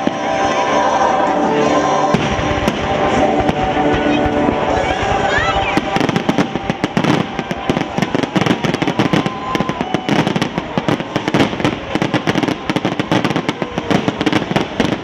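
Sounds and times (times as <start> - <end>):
fireworks bangs and crackles: 0.0 - 1.0, 2.0 - 15.0.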